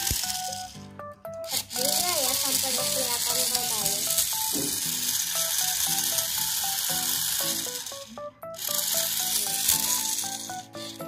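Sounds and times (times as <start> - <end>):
simple melody background music: 0.0 - 11.0
toy car motor whirring: 0.0 - 11.0.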